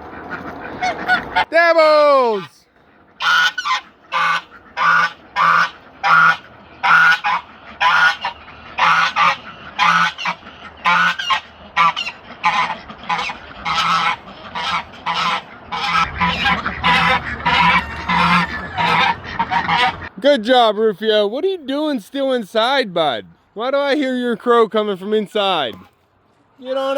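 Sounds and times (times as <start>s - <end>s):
geese honking: 0.0s - 23.2s.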